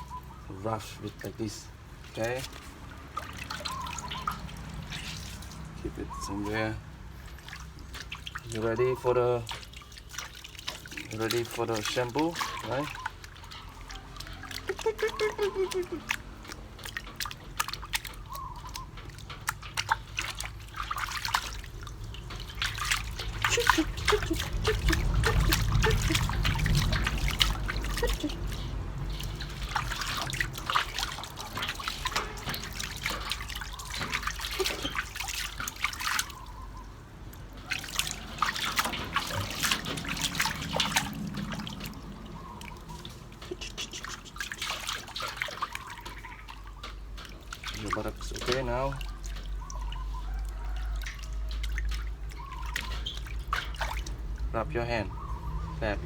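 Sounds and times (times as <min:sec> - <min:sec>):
bath water trickling and splashing: 0:00.0 - 0:56.0.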